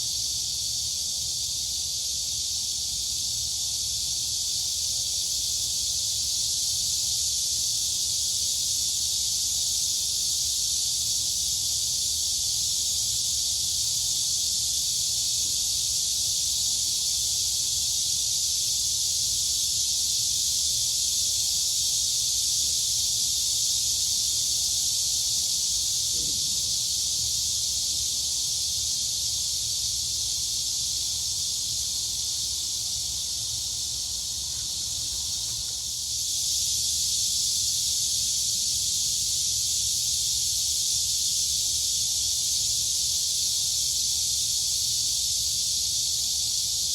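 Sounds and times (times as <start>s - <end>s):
crickets and cicadas chirring: 0.0s - 46.9s.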